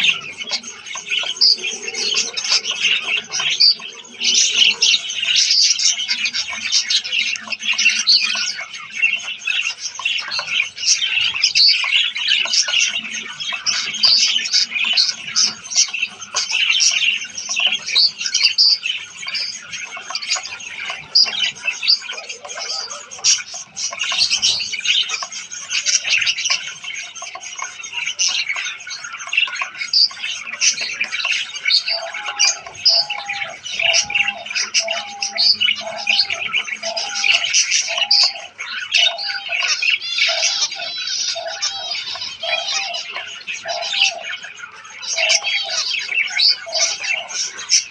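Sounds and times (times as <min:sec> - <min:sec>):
finches chirping: 0:00.0 - 0:47.9.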